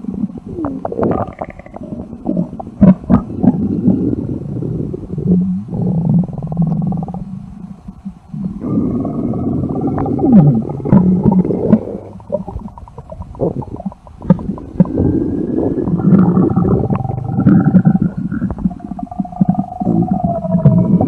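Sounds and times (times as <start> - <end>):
stomach growling: 0.0 - 21.0.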